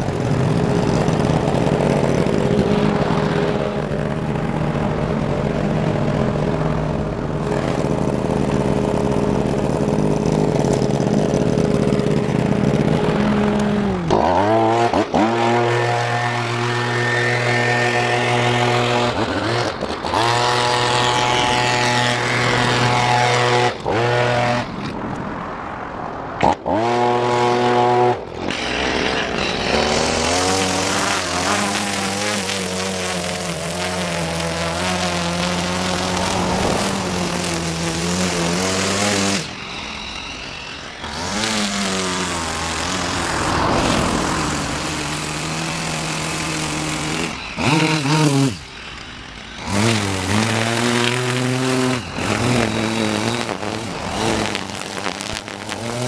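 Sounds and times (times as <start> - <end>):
leaf blower running: 0.0 - 24.9, 26.4 - 56.0
string trimmer motor: 0.0 - 25.3, 26.4 - 56.0.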